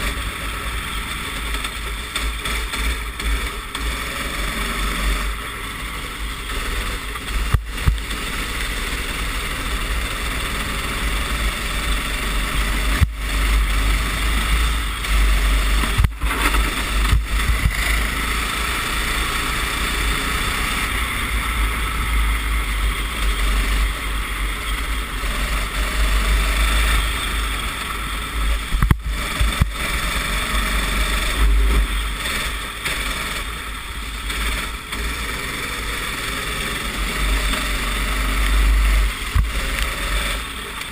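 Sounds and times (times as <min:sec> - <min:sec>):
kart engine running at speed: 0:00.0 - 0:40.9.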